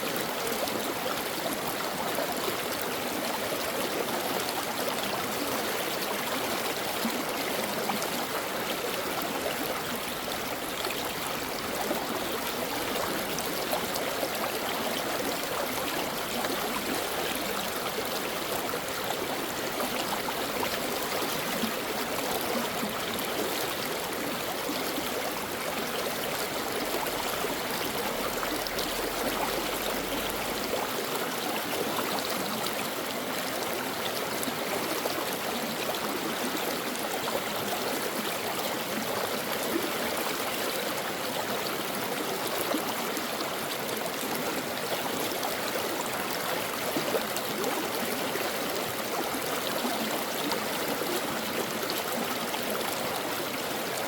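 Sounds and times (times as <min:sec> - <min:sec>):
stream babbling over rocks: 0:00.0 - 0:54.0.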